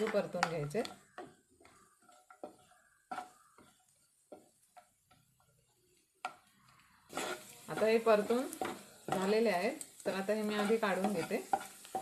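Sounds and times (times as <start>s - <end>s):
wooden spatula scraping a pan: 0.0s - 12.0s.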